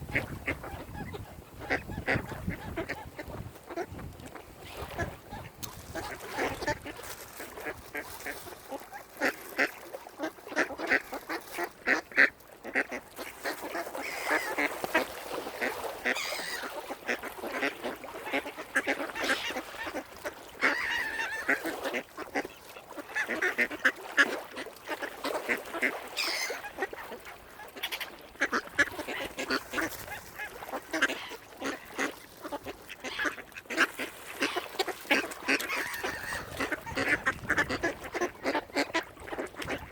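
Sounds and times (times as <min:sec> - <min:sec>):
waterfowl honking and quacking: 0:00.1 - 0:39.9.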